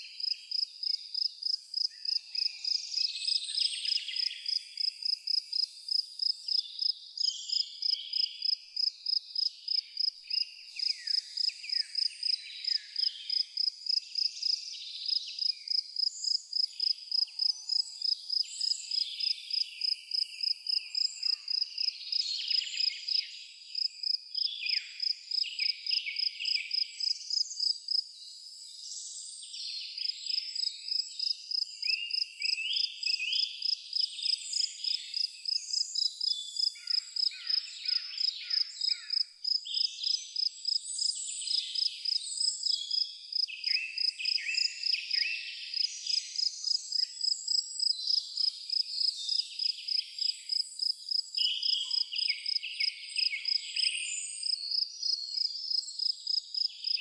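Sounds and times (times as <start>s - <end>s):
cricket chirping: 0.2s - 28.5s, 30.0s - 57.0s
birds singing and calling: 9.4s - 27.6s, 28.2s - 57.0s.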